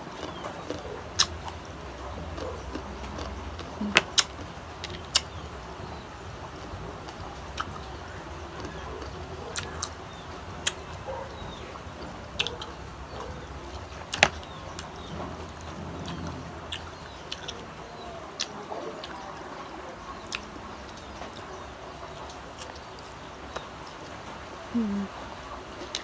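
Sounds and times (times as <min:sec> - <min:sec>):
chewing crisp mango: 0:00.0 - 0:26.0.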